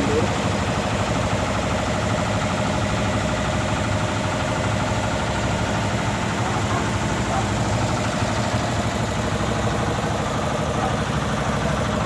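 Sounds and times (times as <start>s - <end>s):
boat diesel engine at low revs: 0.0s - 12.0s.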